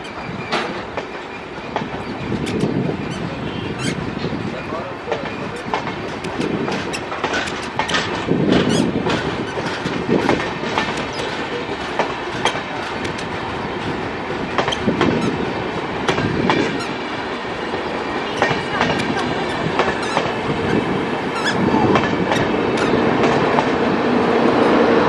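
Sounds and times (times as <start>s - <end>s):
train wheels clattering over rail joints: 0.0s - 25.0s.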